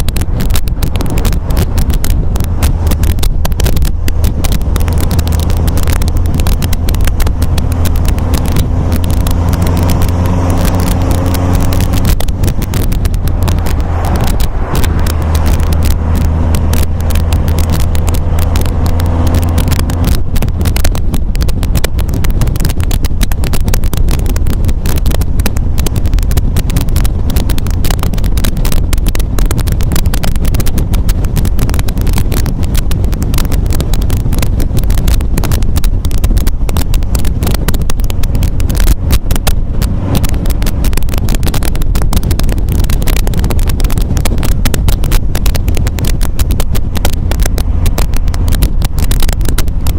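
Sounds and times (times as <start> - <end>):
car engine running: 0.0 - 49.9
wind buffeting microphone: 0.0 - 49.9.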